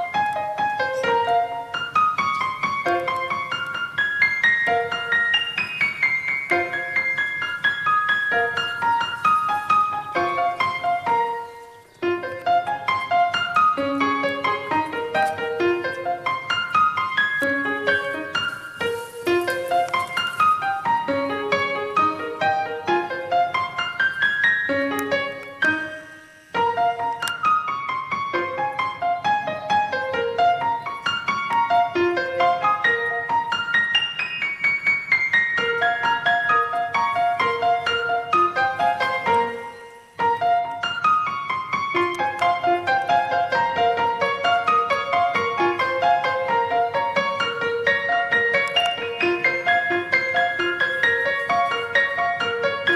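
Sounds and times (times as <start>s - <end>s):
piano melody: 0.0s - 52.9s.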